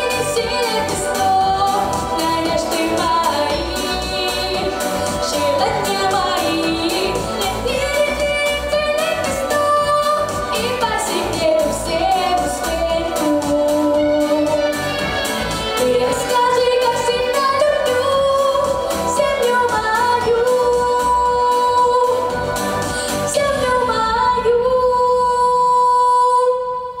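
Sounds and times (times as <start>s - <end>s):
instrumental backing track with beat: 0.0s - 23.8s
woman singing: 0.0s - 27.0s.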